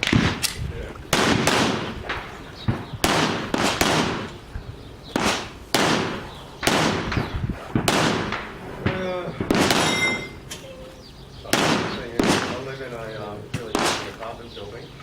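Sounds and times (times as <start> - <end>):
pistol shots echoing: 0.0 - 10.5, 11.4 - 14.3.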